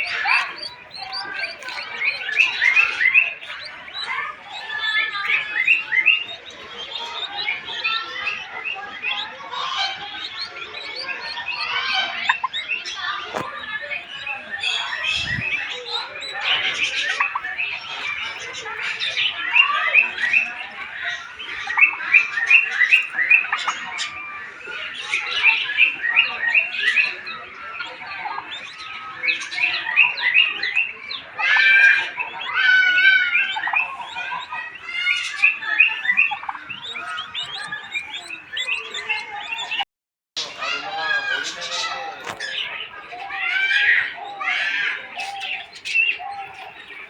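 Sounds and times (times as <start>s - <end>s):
birds chirping and squawking: 0.0s - 47.0s.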